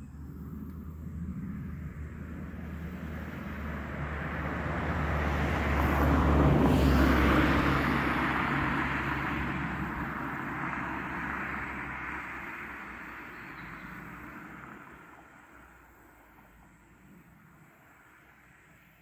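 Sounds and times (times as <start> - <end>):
motor vehicle passing by: 0.0 - 16.5.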